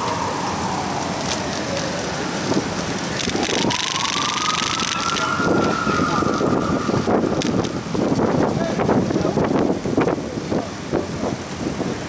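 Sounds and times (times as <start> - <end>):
emergency vehicle siren wailing: 0.0 - 10.6
street noise: 0.0 - 12.0.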